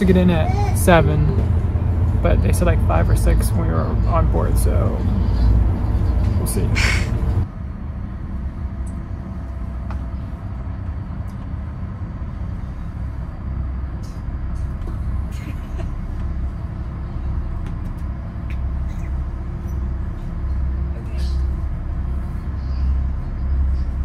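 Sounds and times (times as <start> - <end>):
low machinery drone: 0.0 - 24.0.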